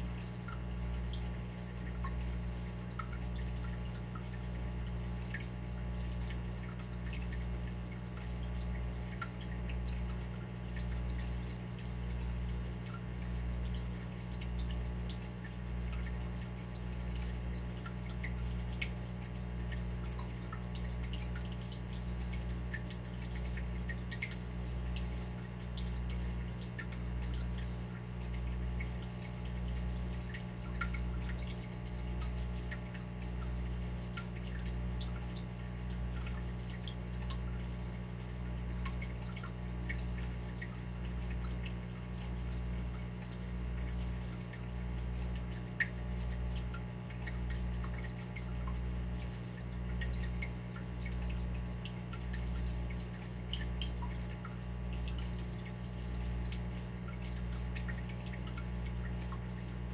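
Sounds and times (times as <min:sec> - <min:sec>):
water dripping: 0:00.0 - 0:59.9.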